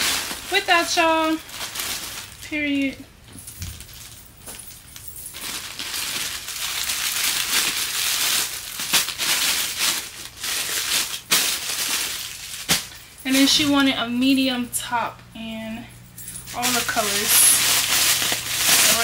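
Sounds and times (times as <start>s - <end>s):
plastic packaging crinkling: 0.0s - 13.9s, 16.3s - 19.0s.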